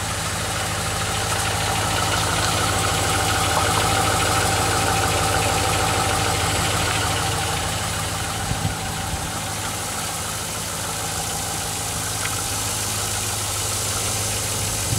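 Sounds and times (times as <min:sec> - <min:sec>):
engine idling with piston knock: 0:00.0 - 0:14.9.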